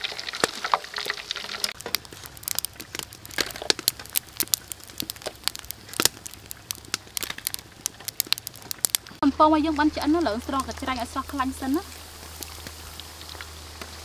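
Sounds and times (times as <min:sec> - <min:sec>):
prawn crackers crackling: 0:00.0 - 0:09.2, 0:09.9 - 0:14.0
faint oil sizzle: 0:00.0 - 0:14.0.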